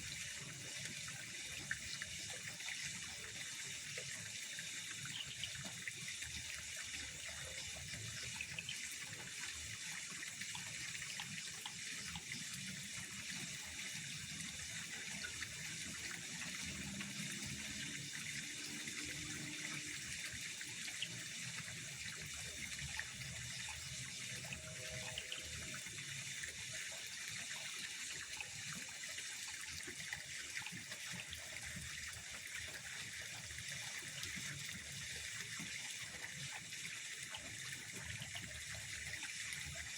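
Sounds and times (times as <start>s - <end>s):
water running and trickling: 0.0s - 39.9s.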